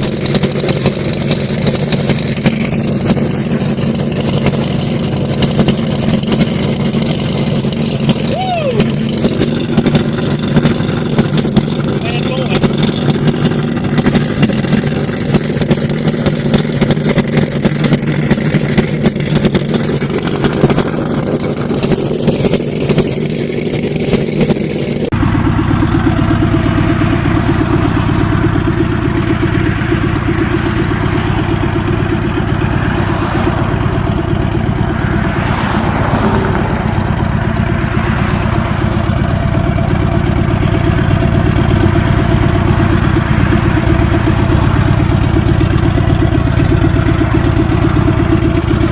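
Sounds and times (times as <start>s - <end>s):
motorcycle engines running: 0.0s - 48.9s.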